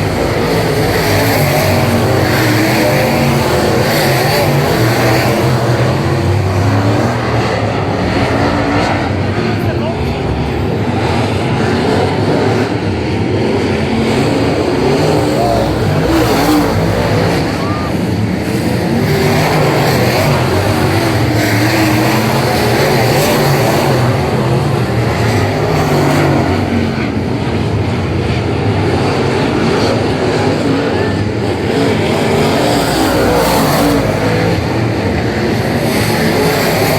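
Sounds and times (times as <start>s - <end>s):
racing car engines: 0.0s - 36.9s.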